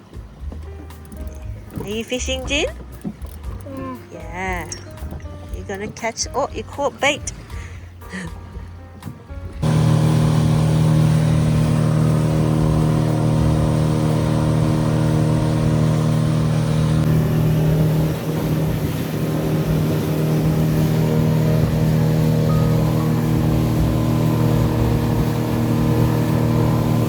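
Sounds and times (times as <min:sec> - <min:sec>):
boat motor droning: 0:00.0 - 0:27.0.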